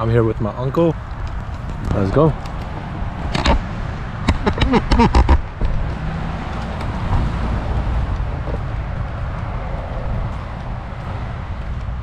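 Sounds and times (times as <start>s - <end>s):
passing cars rumble: 0.0s - 12.0s.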